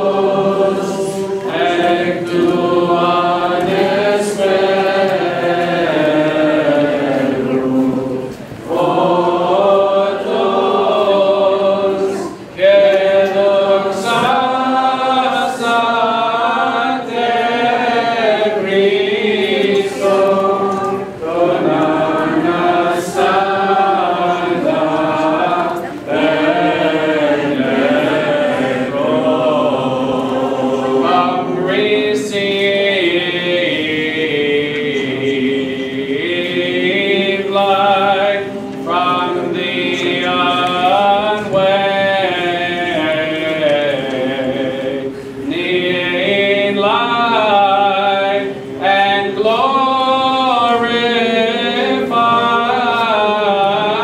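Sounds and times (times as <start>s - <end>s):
choir chanting a hymn: 0.0s - 54.0s.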